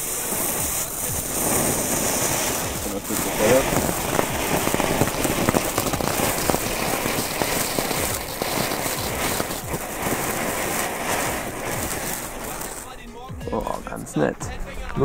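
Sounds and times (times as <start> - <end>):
firework fountain hissing and crackling: 0.0 - 15.0.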